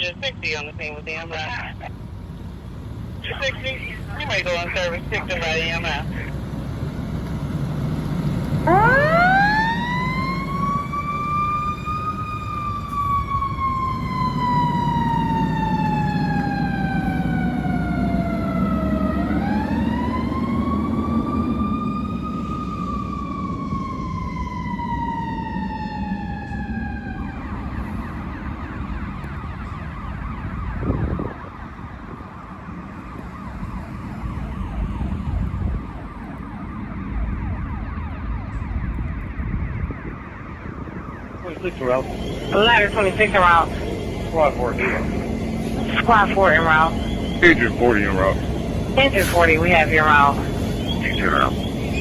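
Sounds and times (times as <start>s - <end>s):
fire engine siren wailing: 0.0s - 52.0s
truck engine rumble: 0.0s - 52.0s.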